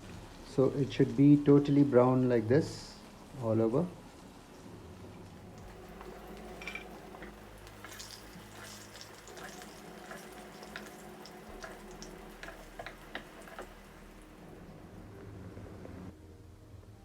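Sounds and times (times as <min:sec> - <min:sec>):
frying sizzle with crackling pops: 0:00.0 - 0:15.3
steady low hum: 0:02.9 - 0:17.0.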